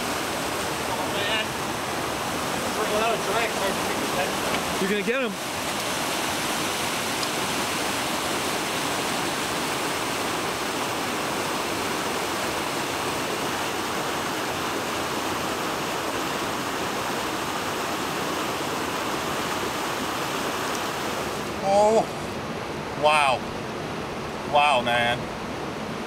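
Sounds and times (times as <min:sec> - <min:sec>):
river rapids rushing: 0:00.0 - 0:26.0.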